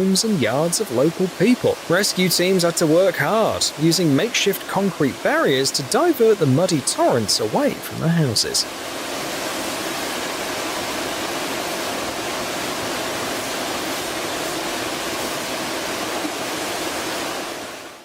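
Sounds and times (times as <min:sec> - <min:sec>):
flood water rushing: 0:00.0 - 0:18.0.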